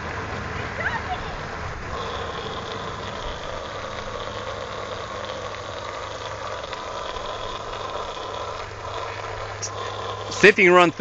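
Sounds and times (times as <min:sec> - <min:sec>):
low steady hum: 0:00.0 - 0:11.0
water jet hissing: 0:01.8 - 0:11.0.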